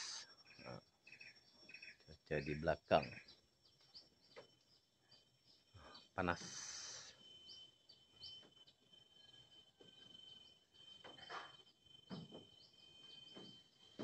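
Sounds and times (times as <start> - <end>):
bird chirps: 0.0 - 14.0
insect droning: 0.0 - 14.0.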